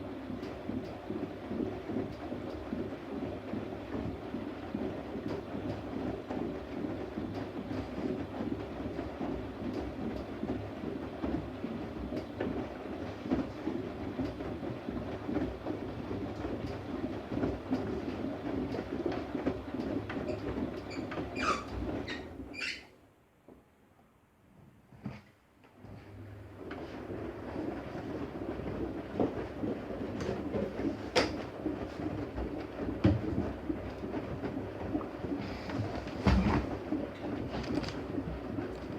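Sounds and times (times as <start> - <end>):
washing machine rumbling: 0.0 - 38.9.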